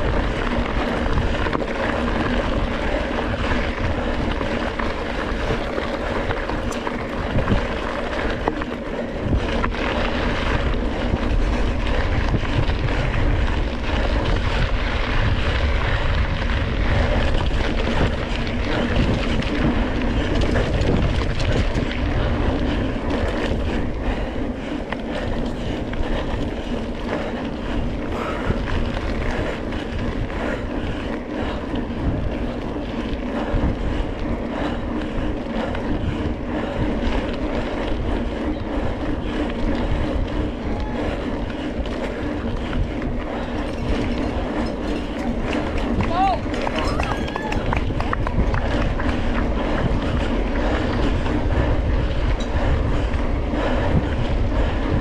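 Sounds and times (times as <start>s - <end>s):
bike riding on dirt trail: 0.0s - 55.0s
wind buffeting microphone: 0.0s - 55.0s.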